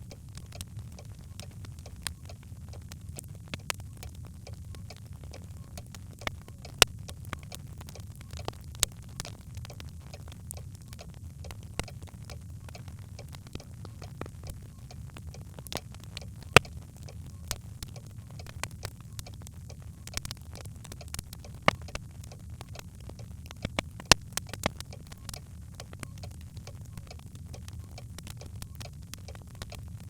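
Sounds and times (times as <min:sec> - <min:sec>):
crackles and pops of fire: 0:00.0 - 0:30.0
fire burning in a hearth: 0:00.0 - 0:30.0.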